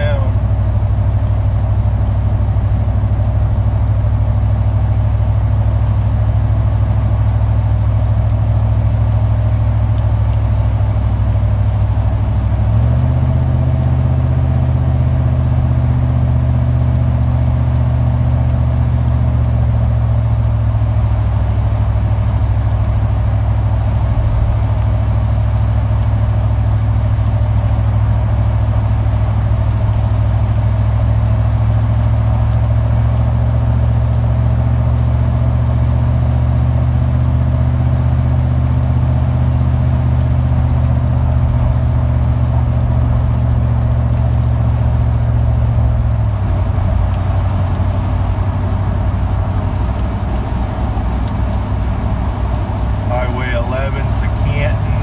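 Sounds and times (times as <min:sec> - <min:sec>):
car engine and road drone: 0:00.0 - 0:55.0.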